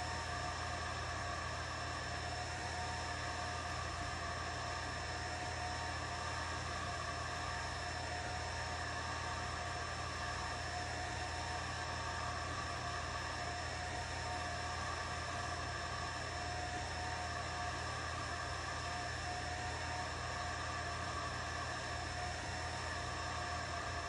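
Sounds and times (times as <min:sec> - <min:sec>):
faint whining tones: 0:00.0 - 0:24.0
laser engraver fan whir: 0:00.0 - 0:24.0.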